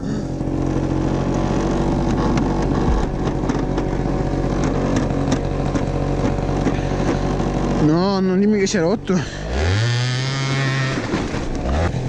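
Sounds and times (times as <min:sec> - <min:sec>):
scooter engine idling: 0:00.0 - 0:09.9.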